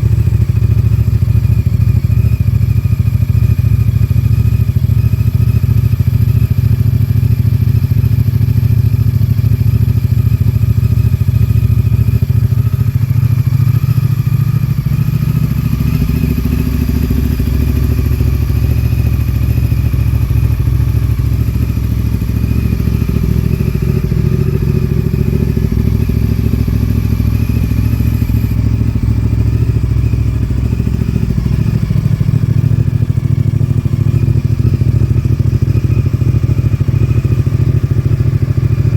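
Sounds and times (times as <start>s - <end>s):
motorcycle engine deep rumble: 0.0s - 38.9s.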